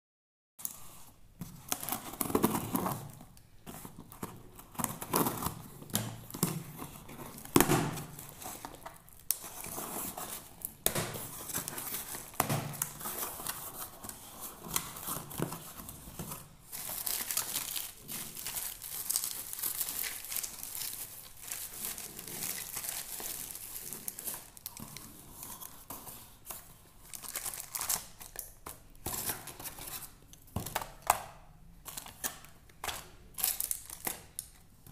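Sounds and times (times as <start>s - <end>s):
bubble wrap crinkling and tearing: 0.6s - 30.3s, 31.8s - 34.9s.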